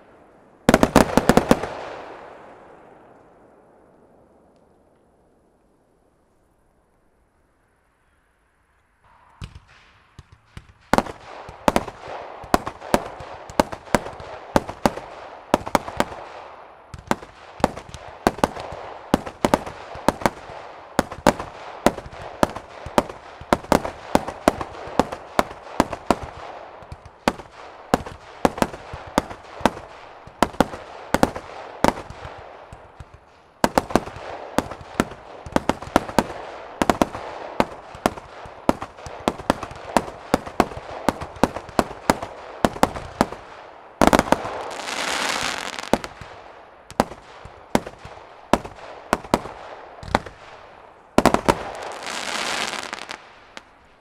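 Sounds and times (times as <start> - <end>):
firework bangs: 0.0 - 3.0, 9.1 - 53.8
firework crackle: 0.7 - 2.1, 9.3 - 54.0.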